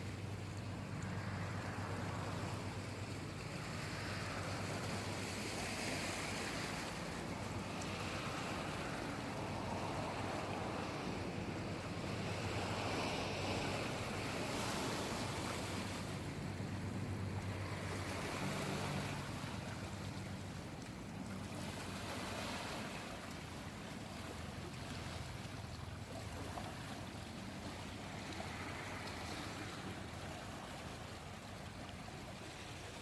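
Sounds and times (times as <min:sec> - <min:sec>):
sea waves washing in: 0:00.0 - 0:33.0.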